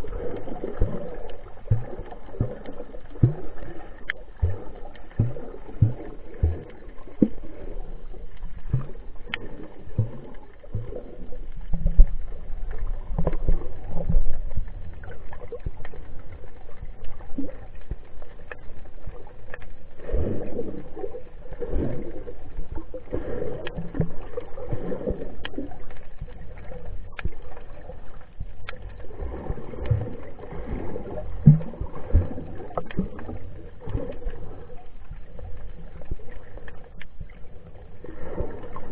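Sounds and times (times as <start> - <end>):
muffled underwater water sloshing: 0.0 - 38.9.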